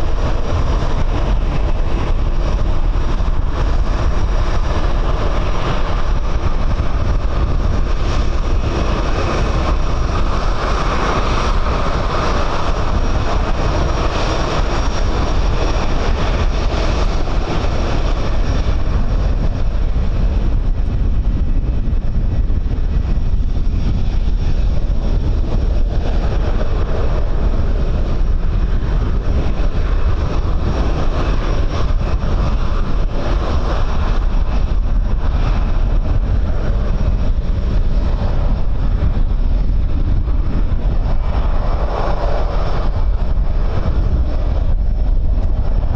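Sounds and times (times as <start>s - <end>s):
jet engine noise: 0.0s - 45.9s
low rumble: 0.0s - 45.9s
wind buffeting on microphone: 0.0s - 45.9s.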